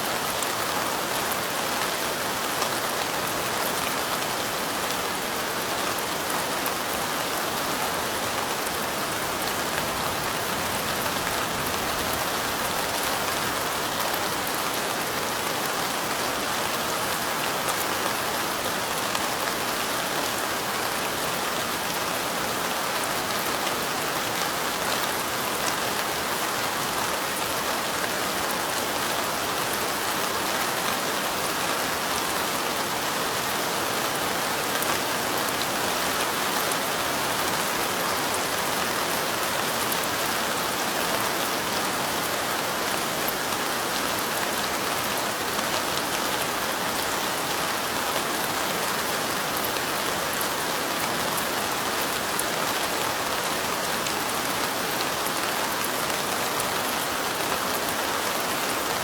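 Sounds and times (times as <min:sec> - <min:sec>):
light rain pattering: 0:00.0 - 0:59.0.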